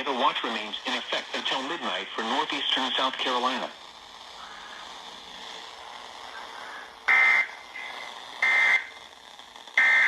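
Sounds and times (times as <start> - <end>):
buzzing data bursts: 0.0 - 10.0
steady radio hiss: 0.0 - 10.0.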